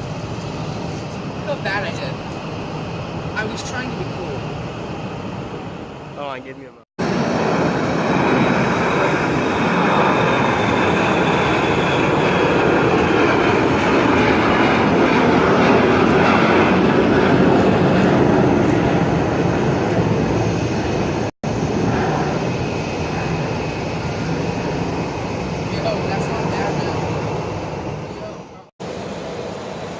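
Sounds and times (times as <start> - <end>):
jet airliner engines passing: 0.0 - 29.9.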